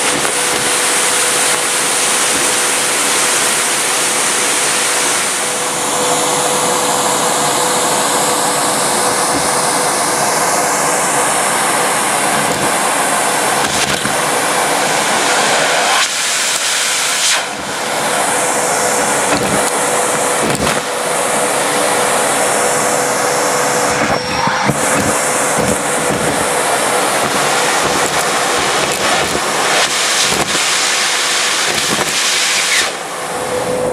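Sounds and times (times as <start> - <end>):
debris knocking in hose: 0.0 - 5.1, 9.0 - 33.0
vacuum cleaner motor whine: 0.0 - 33.9.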